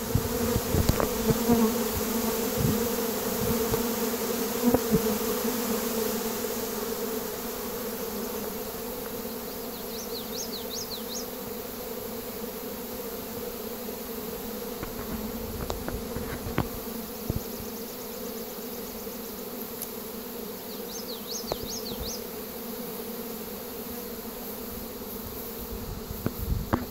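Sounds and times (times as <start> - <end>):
bee swarm humming: 0.0 - 26.9.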